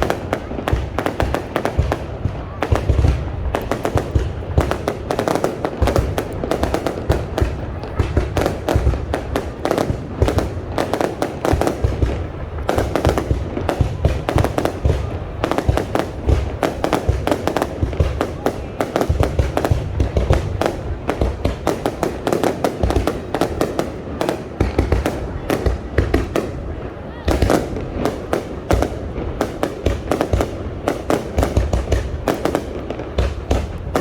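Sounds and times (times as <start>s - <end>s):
deep fireworks booms: 0.0s - 34.0s
fireworks bangs and crackling: 0.0s - 34.0s.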